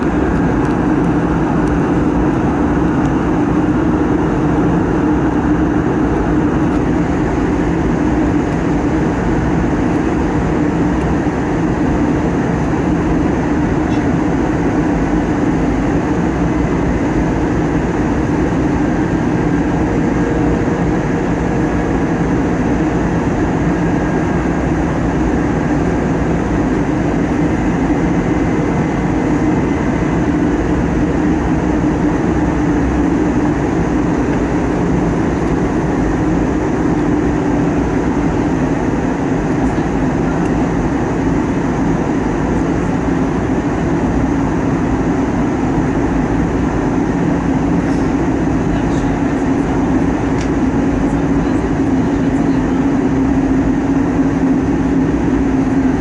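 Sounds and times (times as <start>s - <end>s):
airplane cabin engine rush: 0.0s - 56.0s
low steady hum: 0.0s - 56.0s.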